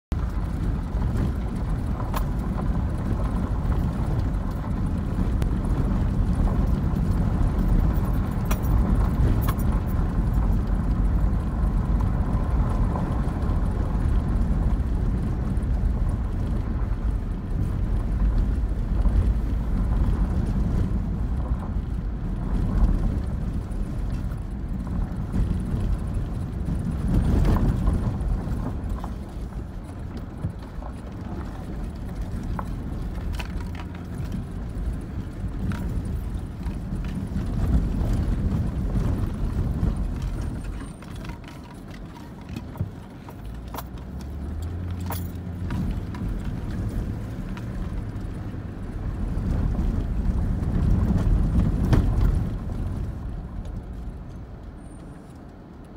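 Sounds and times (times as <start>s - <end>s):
engine and tyres on gravel: 0.1s - 55.9s
knocks and rattles over bumps: 0.1s - 55.9s.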